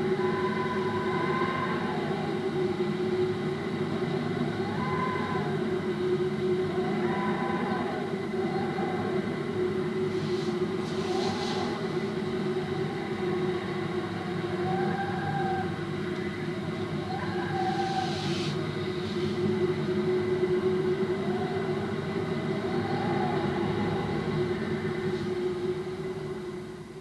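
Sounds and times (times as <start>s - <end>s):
faint wind whistles: 0.0s - 27.0s
low wind drone: 0.0s - 27.0s.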